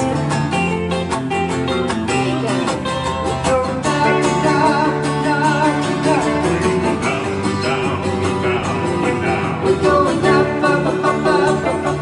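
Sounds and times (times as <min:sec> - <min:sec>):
guitar: 0:00.0 - 0:12.0
children's song with band: 0:02.1 - 0:12.0.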